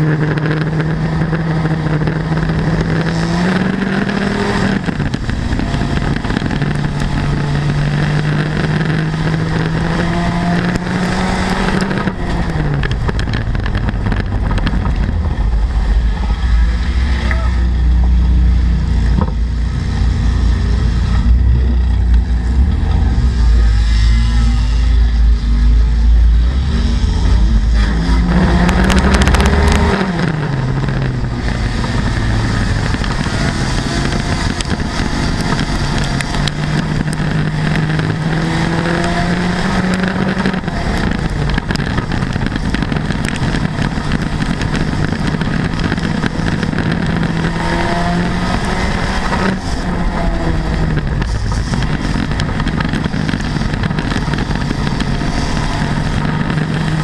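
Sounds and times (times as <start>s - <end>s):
heavy deep rumble: 0.0s - 57.0s
race car engine revving: 0.0s - 57.0s.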